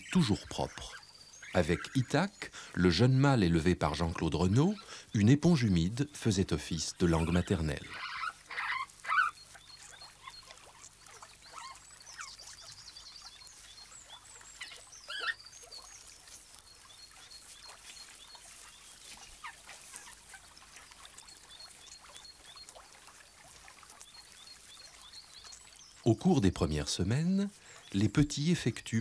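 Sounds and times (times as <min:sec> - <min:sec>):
otter cubs squeaking: 0:00.0 - 0:28.8.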